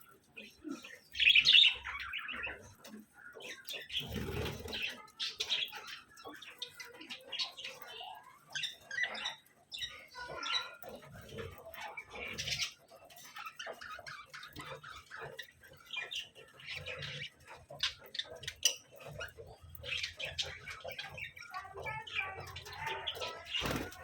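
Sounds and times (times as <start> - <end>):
budgerigars chattering: 0.0 - 24.0.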